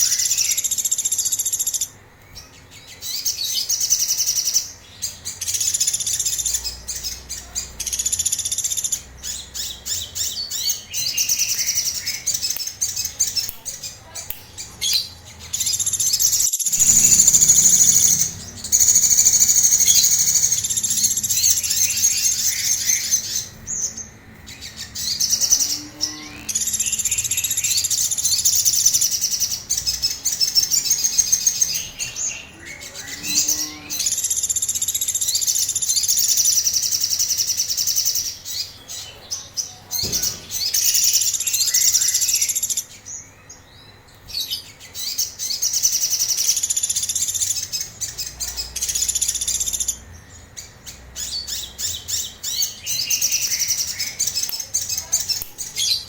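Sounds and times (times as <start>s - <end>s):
songbird chattering song: 0.0s - 56.0s.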